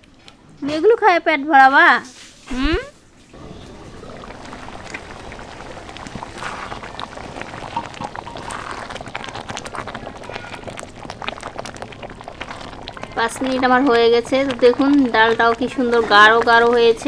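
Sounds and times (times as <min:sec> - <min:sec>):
dal bubbling in a pot: 0:00.0 - 0:17.0
steady hiss: 0:01.5 - 0:17.0.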